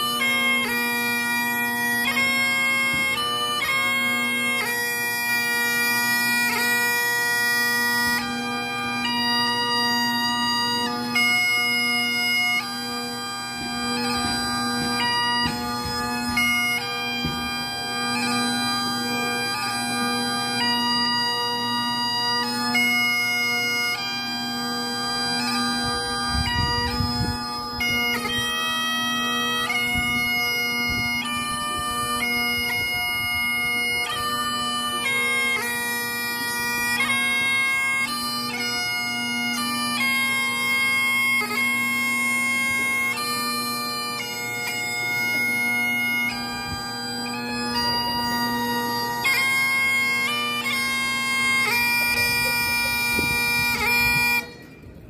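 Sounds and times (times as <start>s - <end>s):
bagpipe chanter melody: 0.0s - 55.0s
bagpipe drone: 0.0s - 55.0s.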